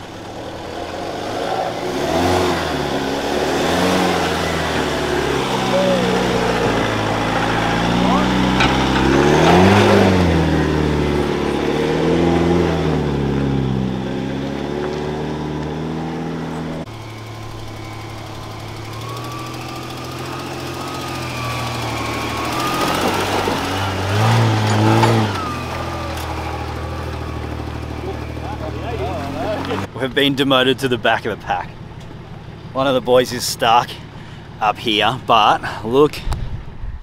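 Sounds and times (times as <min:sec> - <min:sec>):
off-road engine revving: 0:00.0 - 0:36.8.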